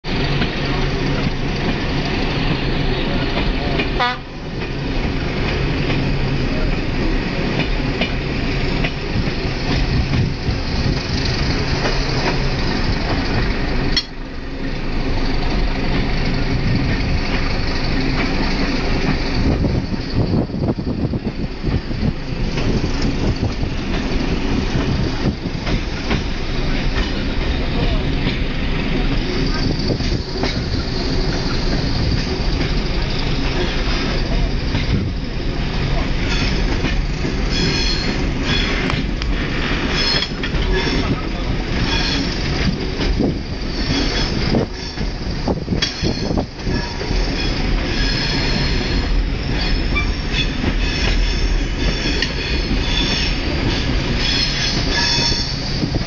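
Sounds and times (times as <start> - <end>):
train wheels and carriages: 0.0 - 56.0.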